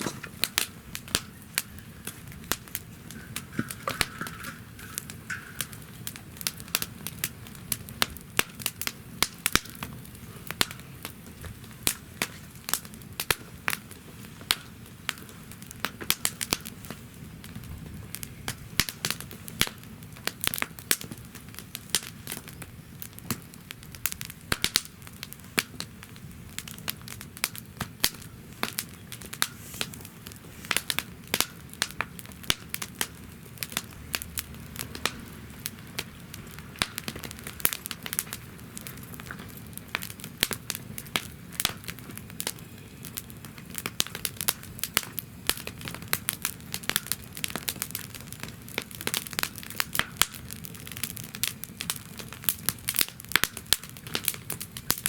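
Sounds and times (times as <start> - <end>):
low rumble of flame: 0.0 - 55.0
wood fire crackling and popping: 0.0 - 55.0.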